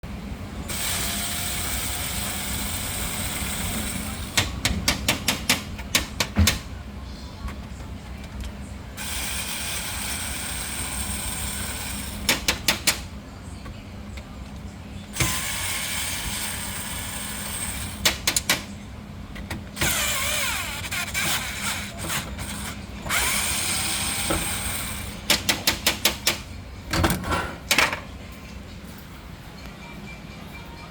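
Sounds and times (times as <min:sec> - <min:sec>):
fan motor running with hum: 0:00.0 - 0:30.9.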